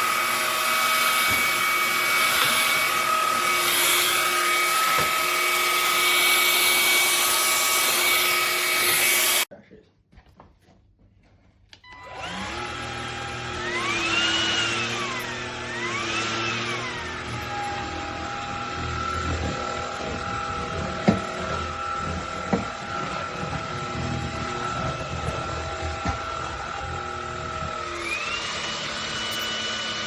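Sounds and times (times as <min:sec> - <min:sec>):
vacuum cleaner motor whine: 0:00.0 - 0:09.5, 0:11.8 - 0:30.0.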